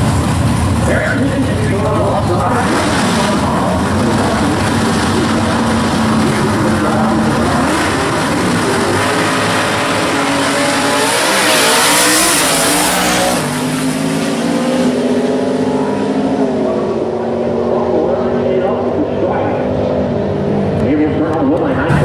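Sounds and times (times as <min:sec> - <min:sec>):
drag racing engines revving: 0:00.0 - 0:22.0.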